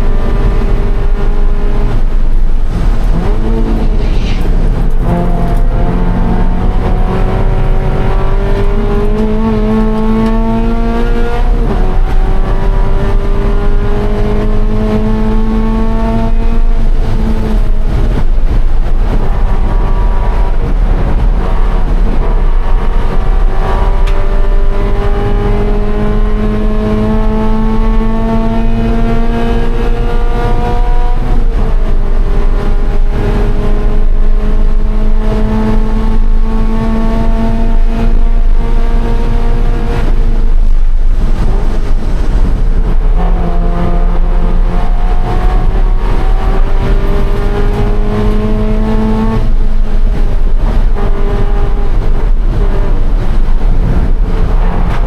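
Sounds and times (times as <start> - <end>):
car engine accelerating: 0.0 - 55.0
road and wind rumble: 0.0 - 55.0.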